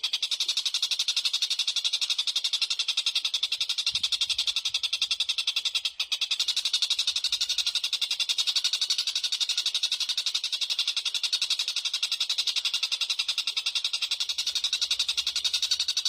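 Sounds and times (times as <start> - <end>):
songbird high-pitched trill: 0.0 - 16.0.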